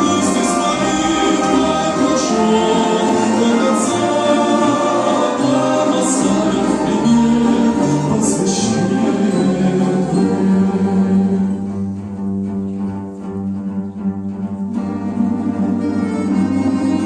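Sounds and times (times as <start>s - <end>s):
orchestra playing a hymn: 0.0s - 17.0s.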